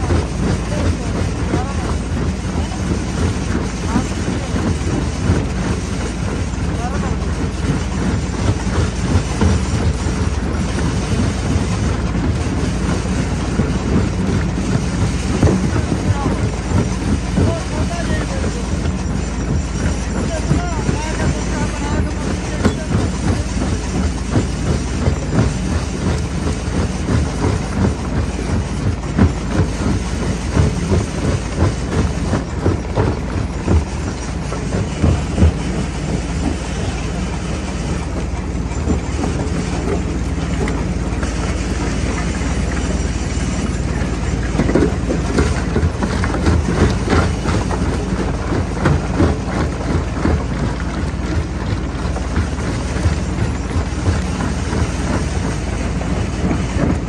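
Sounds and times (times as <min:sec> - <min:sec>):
crusher machine drone: 0:00.0 - 0:57.0.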